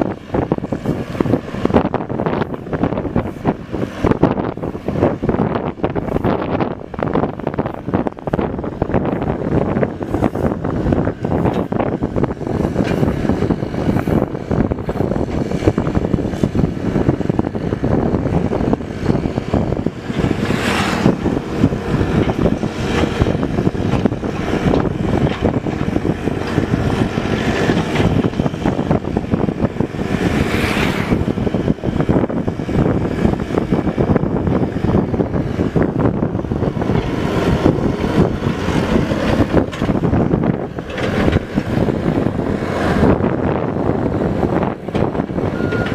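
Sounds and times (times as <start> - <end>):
diesel excavator engine running: 0.0 - 45.9.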